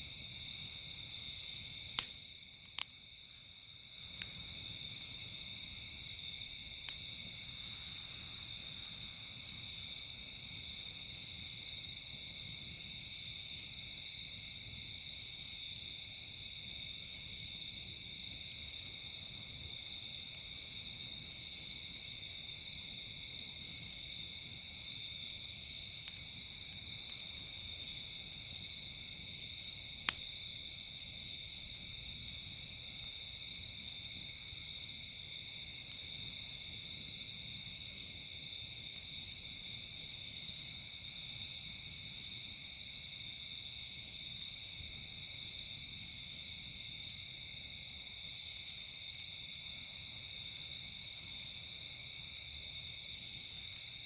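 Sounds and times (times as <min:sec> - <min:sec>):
campfire popping: 0:00.0 - 0:43.0, 0:43.6 - 0:54.0
crickets and insects chorus: 0:00.0 - 0:54.0
high insect trill: 0:00.0 - 0:54.0.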